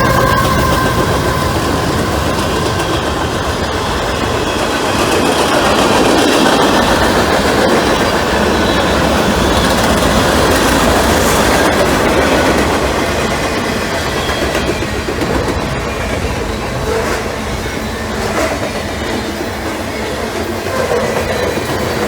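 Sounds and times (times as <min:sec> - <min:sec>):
train wheels rumbling and clattering: 0:00.0 - 0:22.0.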